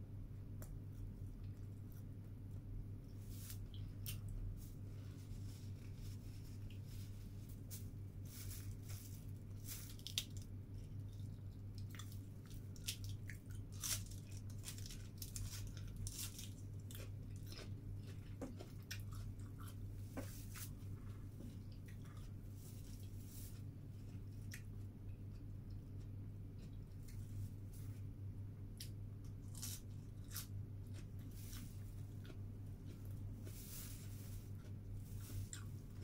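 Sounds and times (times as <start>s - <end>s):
person chewing crisp lettuce: 3.1s - 28.0s, 28.7s - 36.0s.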